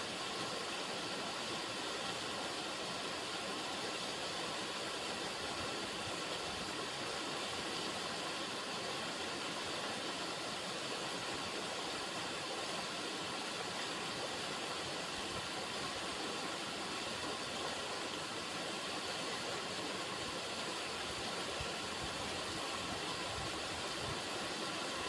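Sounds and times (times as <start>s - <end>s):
river water running over rocks: 0.0s - 25.0s.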